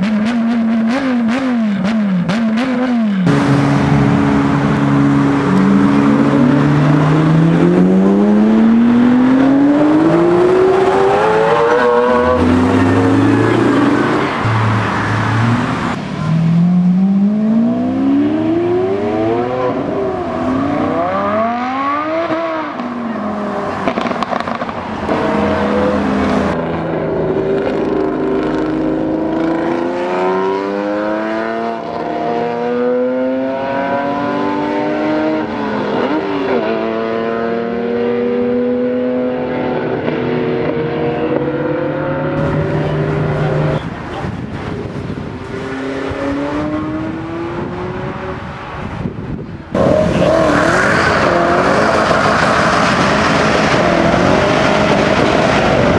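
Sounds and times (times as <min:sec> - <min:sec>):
car engine accelerating hard: 0:00.0 - 0:43.8, 0:49.7 - 0:55.9.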